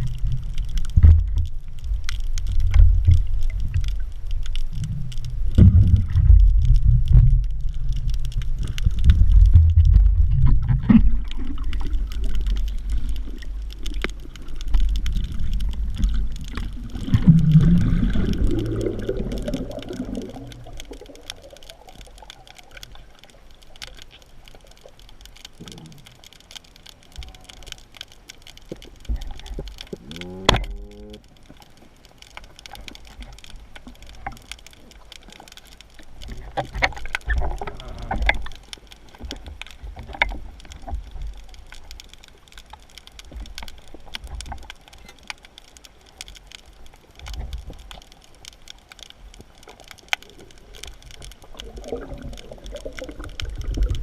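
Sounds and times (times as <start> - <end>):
scattered clicks: 0.0 - 54.0
water churning and sloshing: 0.0 - 54.0.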